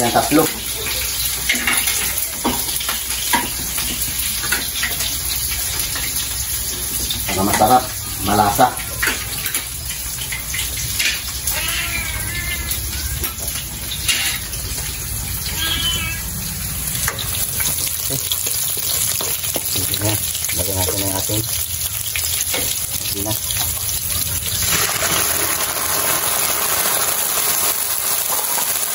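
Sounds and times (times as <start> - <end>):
shallots and garlic sizzling in oil: 0.0 - 28.9.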